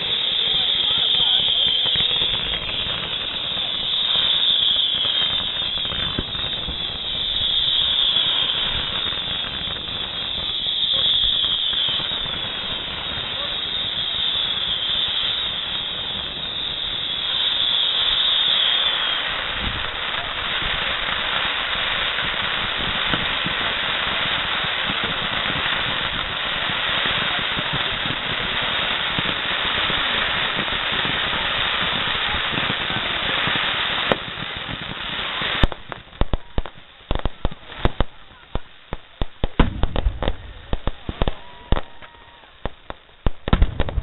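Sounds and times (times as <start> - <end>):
fireworks crackling: 0.0 - 44.0
high firework whistle: 0.0 - 44.0
sharp firework bangs: 0.0 - 44.0.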